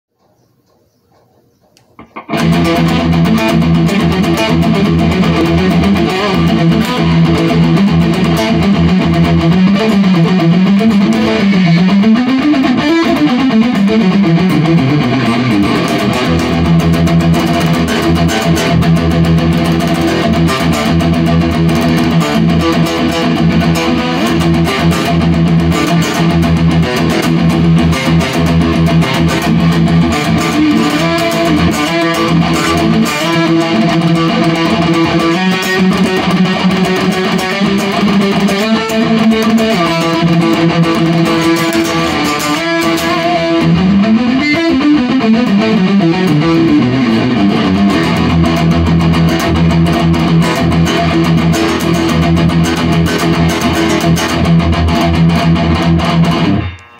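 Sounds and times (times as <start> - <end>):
electric guitar sustained notes: 2.0 - 56.9.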